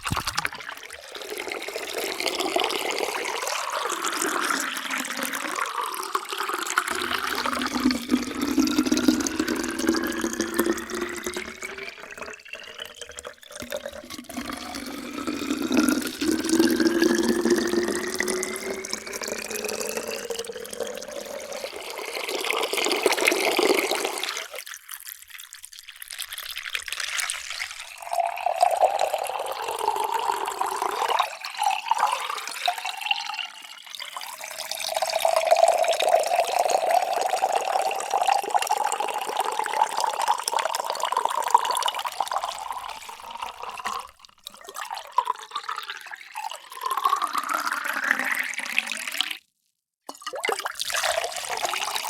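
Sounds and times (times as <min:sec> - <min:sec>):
water pouring into a vessel: 0:00.0 - 0:49.5, 0:50.1 - 0:52.0.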